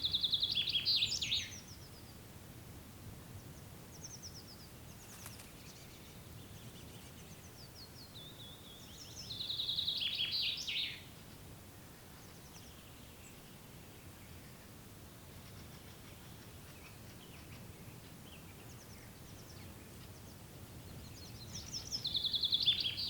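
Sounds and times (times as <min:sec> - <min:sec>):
songbirds singing: 0:00.0 - 0:02.4, 0:03.0 - 0:23.0
low wind rumble: 0:00.0 - 0:23.0.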